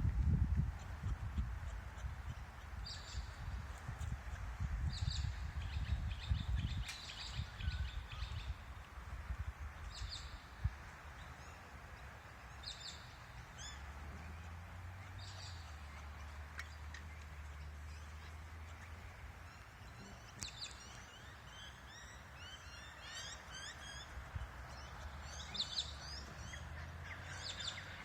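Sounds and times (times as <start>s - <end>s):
small birds chirping: 0.5s - 28.0s.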